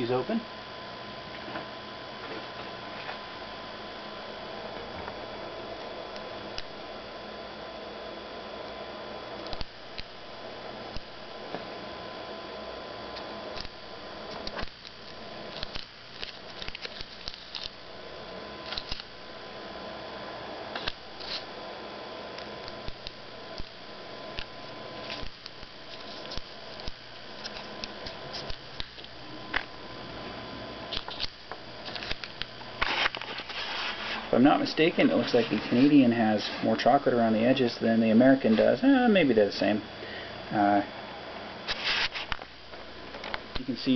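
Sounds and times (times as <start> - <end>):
room hum with high whine: 0.0 - 43.9.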